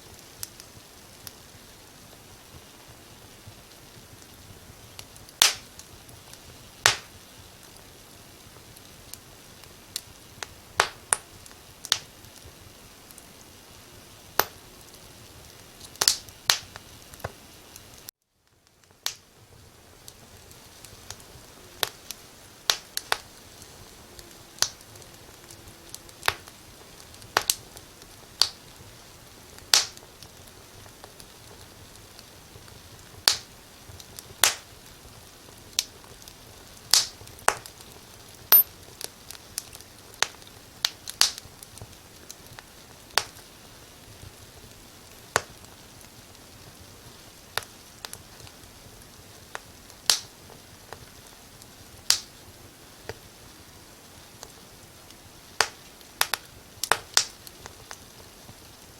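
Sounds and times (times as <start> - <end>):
faint steady hiss: 0.0 - 58.9
firewood crackling and popping: 0.0 - 58.9.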